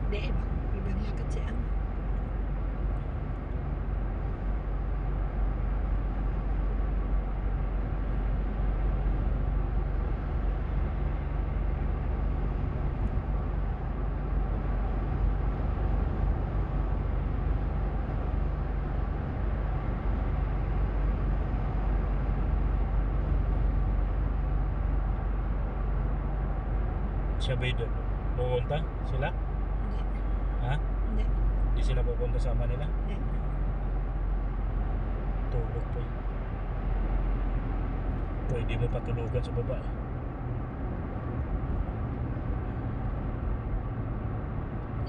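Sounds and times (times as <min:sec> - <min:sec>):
car cabin road and engine noise: 0:00.0 - 0:45.0.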